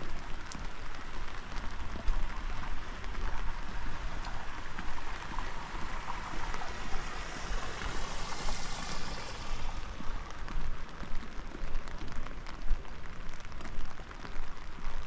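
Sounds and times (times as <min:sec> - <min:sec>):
rain hissing: 0:00.0 - 0:14.9
running water: 0:00.0 - 0:15.0.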